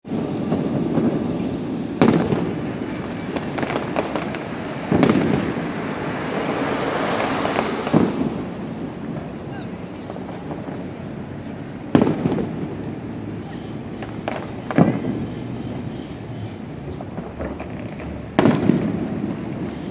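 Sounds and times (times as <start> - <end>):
fireworks booming: 0.0 - 19.9
fireworks hissing crackle: 0.0 - 19.9.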